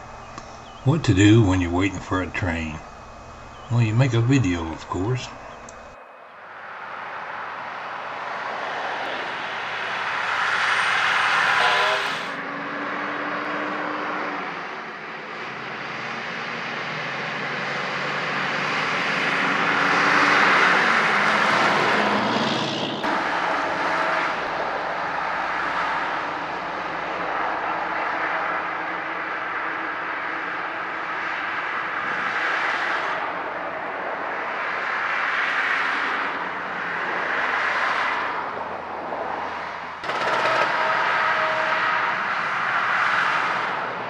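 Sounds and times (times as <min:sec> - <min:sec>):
trucks and cars passing: 0:00.0 - 0:44.0.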